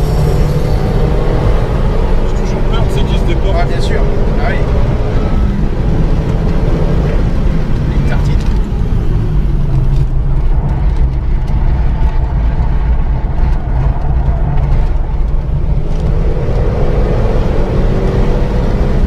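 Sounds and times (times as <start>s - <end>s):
car engine at speed: 0.0s - 19.0s
tyre and road noise: 0.0s - 19.0s.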